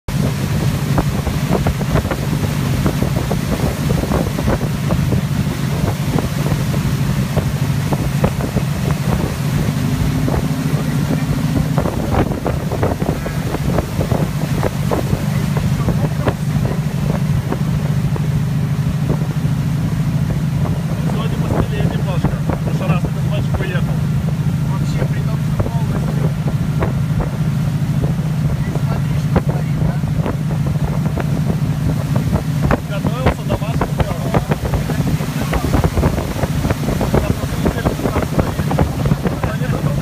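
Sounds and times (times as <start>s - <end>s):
motorboat engine running: 0.0s - 40.0s
rushing water: 0.0s - 40.0s
water slapping against hull: 0.0s - 40.0s
wind on microphone: 0.1s - 40.0s.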